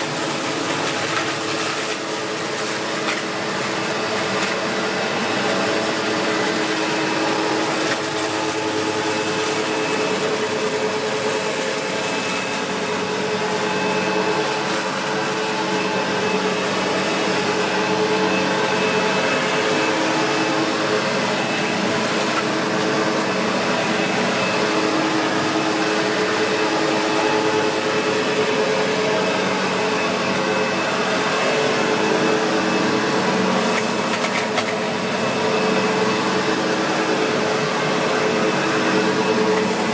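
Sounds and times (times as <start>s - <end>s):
vacuum cleaner running over carpet: 0.0s - 39.9s.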